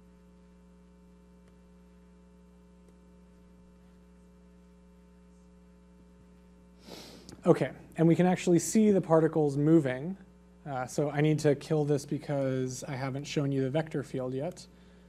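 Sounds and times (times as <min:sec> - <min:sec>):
faint mains hum: 0:00.0 - 0:15.0.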